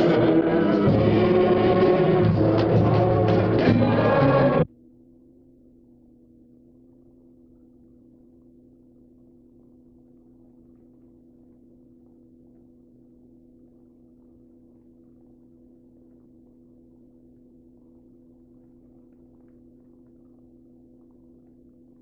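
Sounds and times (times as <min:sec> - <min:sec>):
low hum of held tones: 0:00.0 - 0:22.0.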